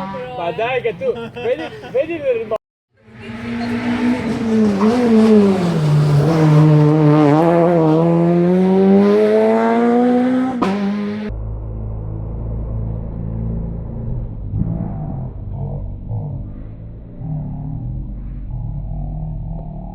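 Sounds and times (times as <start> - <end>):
rally car engine revving: 3.0 - 19.9.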